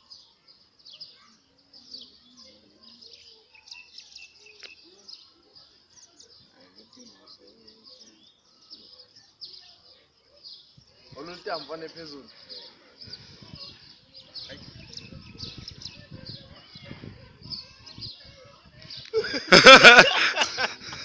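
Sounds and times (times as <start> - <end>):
small birds chirping: 0.0 - 19.8
faint low voices: 0.0 - 21.0.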